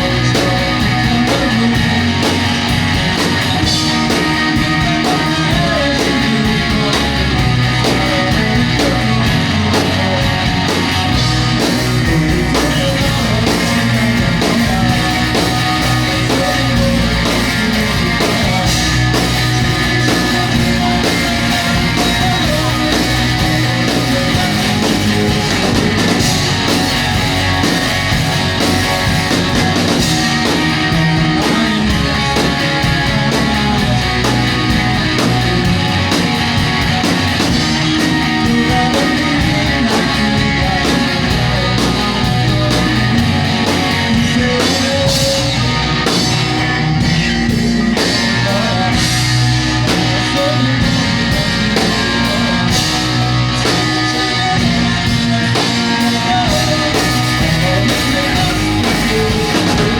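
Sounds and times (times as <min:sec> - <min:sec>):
drum kit: 0:00.0 - 0:59.9
guitars: 0:00.0 - 0:59.9
rock band playing live: 0:00.0 - 0:59.9.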